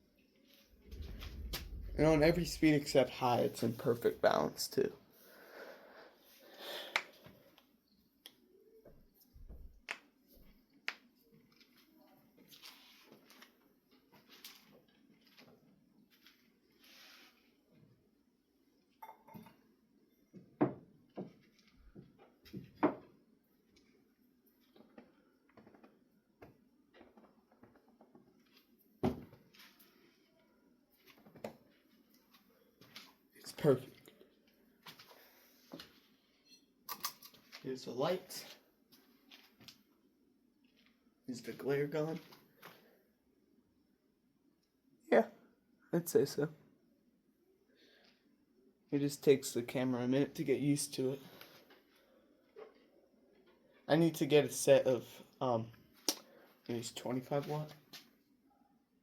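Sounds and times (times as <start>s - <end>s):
faint room noise: 0.0s - 59.0s.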